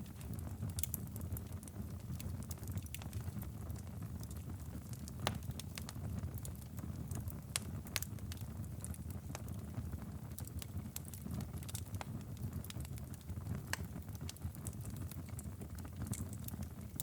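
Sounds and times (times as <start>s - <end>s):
fire popping and snapping: 0.0s - 17.0s
fire rumbling: 0.0s - 17.0s.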